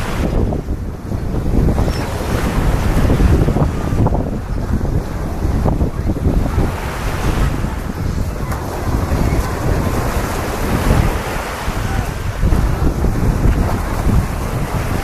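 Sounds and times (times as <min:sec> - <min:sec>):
small waves breaking on shore: 0:00.0 - 0:15.0
wind buffeting microphone: 0:00.0 - 0:15.0.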